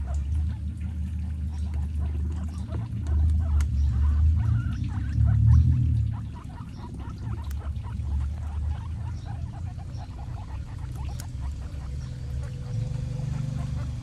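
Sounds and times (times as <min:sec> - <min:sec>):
guinea pigs crunching vegetables: 0:00.0 - 0:14.0
steady low hum: 0:00.0 - 0:14.0.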